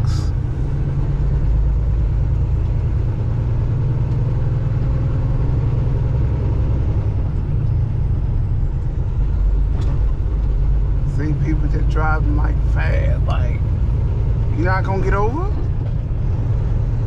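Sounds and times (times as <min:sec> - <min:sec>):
diesel engine and road noise: 0:00.0 - 0:17.0.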